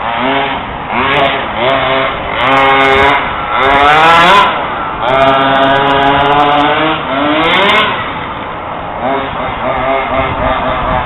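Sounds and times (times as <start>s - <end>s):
small two-stroke engine revving: 0.0s - 11.0s.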